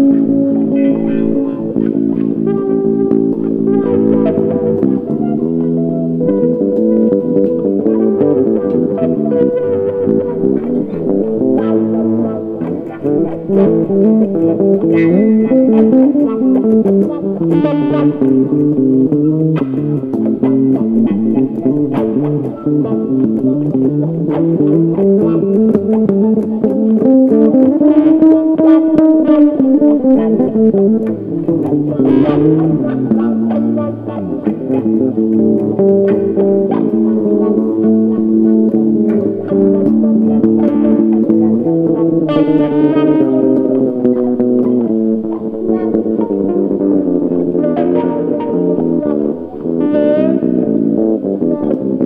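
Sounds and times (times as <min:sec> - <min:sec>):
electric bass blues solo: 0:00.0 - 0:52.0
electric guitar through wah pedal: 0:00.0 - 0:52.0.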